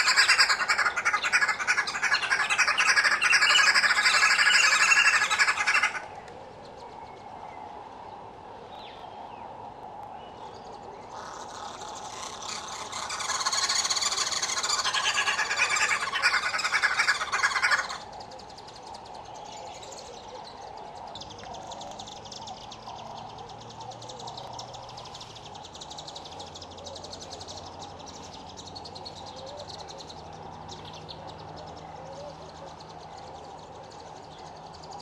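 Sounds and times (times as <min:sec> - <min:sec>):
birds chattering cackle: 0:00.0 - 0:08.2, 0:08.8 - 0:35.0
faint wavering bird calls: 0:00.0 - 0:35.0.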